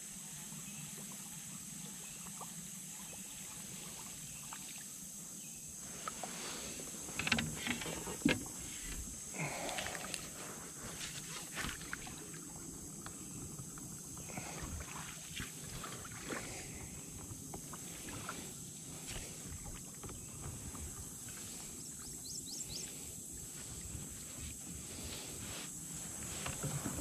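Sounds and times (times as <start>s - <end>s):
high-pitched hiss: 0.0s - 27.0s
paddle strokes and drips: 0.1s - 27.0s.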